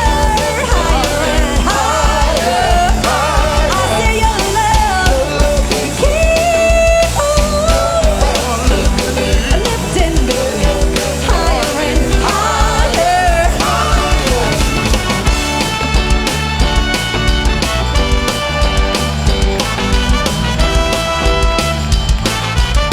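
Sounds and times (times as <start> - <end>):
rock band music: 0.0 - 22.9.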